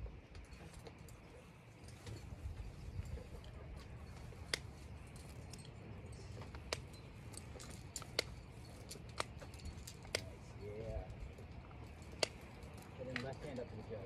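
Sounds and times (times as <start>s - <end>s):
carabiners clinking together: 0.0s - 14.0s.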